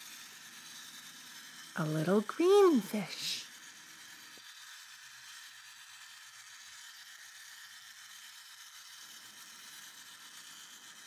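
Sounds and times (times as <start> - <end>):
clockwork toy whirring: 0.0 - 11.0.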